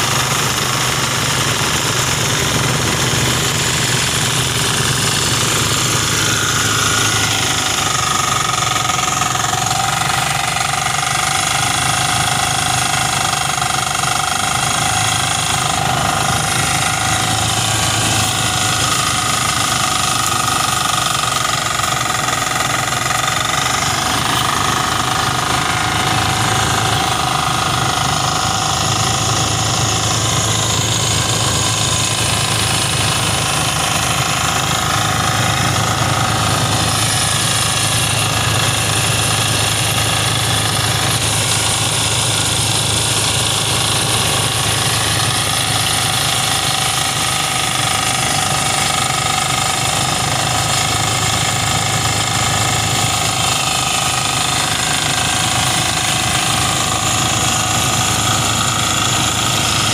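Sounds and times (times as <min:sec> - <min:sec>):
rice thresher threshing: 0:00.0 - 0:59.9
small engine running: 0:00.0 - 0:59.9.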